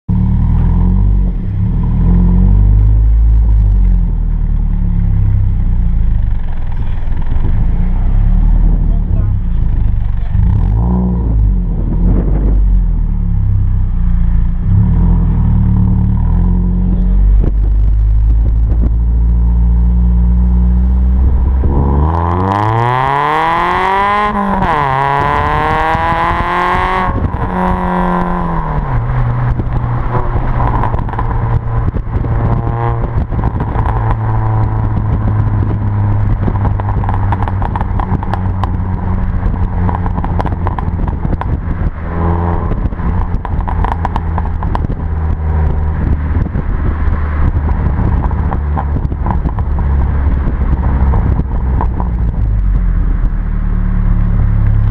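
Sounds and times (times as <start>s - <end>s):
car engine idling and revving: 0.1s - 54.9s.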